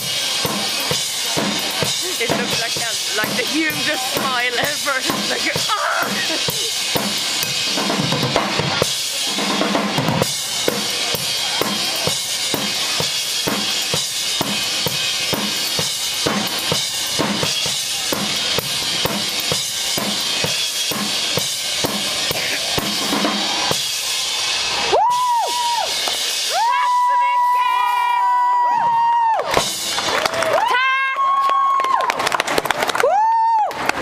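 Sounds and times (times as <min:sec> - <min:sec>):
rock drum kit beat: 0:00.0 - 0:30.3.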